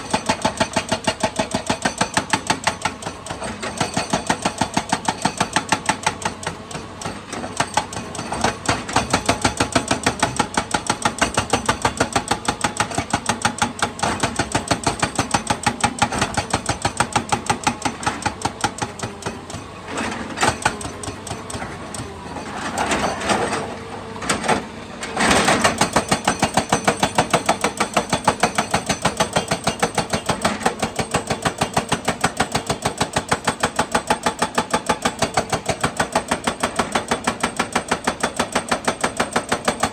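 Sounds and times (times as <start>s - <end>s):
excavator rapid clicking: 0.1s - 23.6s, 25.2s - 39.9s.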